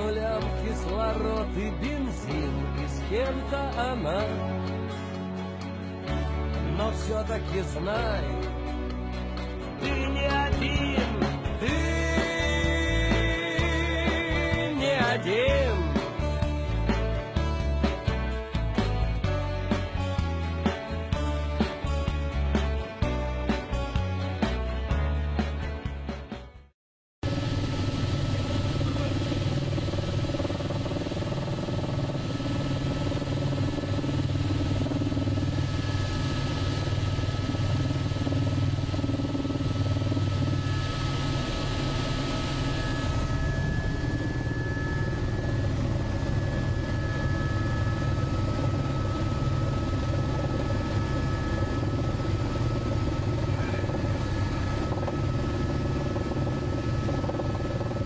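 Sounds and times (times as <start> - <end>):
helicopter engine and rotor drone: 0.0 - 25.5, 27.2 - 58.0.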